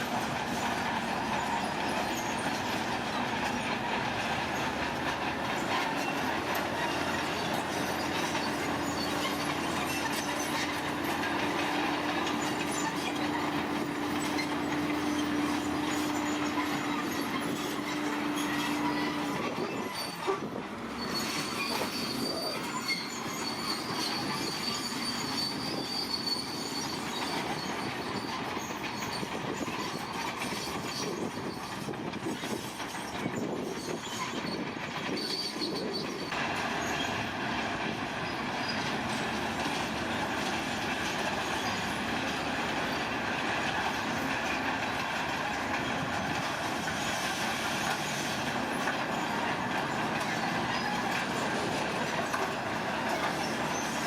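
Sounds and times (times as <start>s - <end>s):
heavy machinery engine and tracks: 0.0s - 54.0s.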